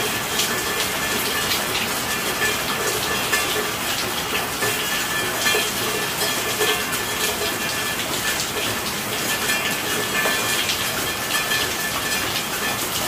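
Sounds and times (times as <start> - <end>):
rain falling: 0.0 - 13.0
raindrop ticks and splashes: 0.0 - 13.0.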